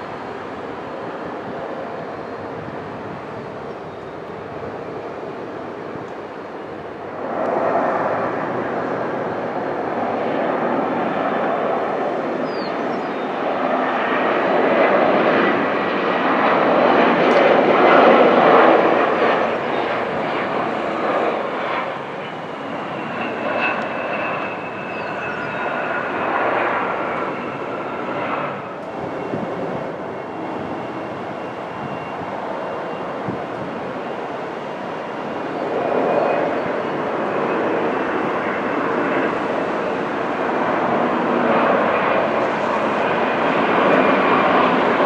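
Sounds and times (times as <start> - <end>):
jet engine rumble: 0.0 - 45.0.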